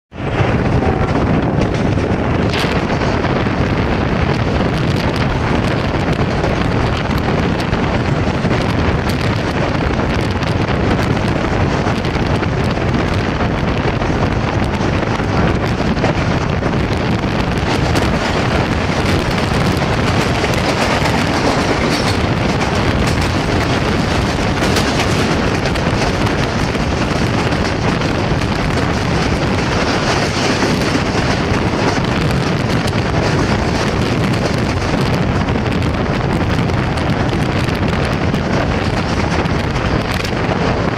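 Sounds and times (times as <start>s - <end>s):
train rumbling at speed: 0.1s - 40.9s
wind rush on microphone: 0.1s - 40.9s.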